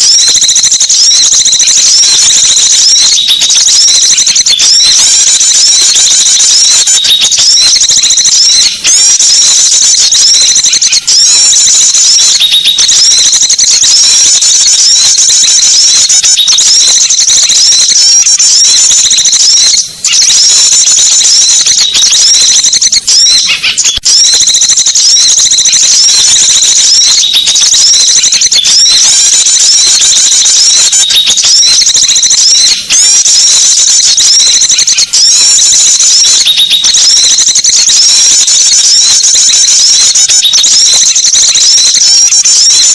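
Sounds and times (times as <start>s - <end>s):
high-pitched bird chirps twittering: 0.0s - 42.9s.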